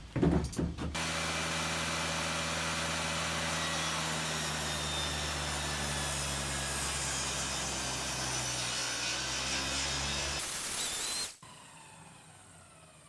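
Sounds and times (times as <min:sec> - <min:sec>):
table saw cutting wood: 0:00.9 - 0:11.8.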